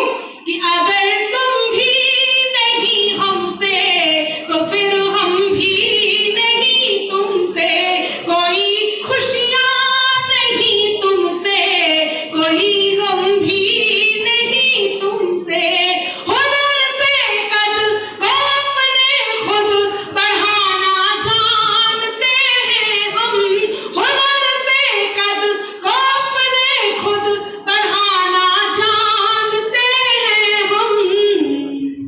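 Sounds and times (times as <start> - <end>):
woman singing into microphone: 0.0 - 32.0.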